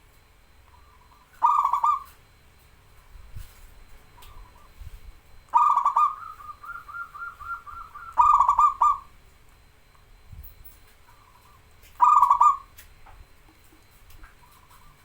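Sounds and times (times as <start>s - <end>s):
dove cooing: 0.0s - 9.7s, 11.0s - 15.0s.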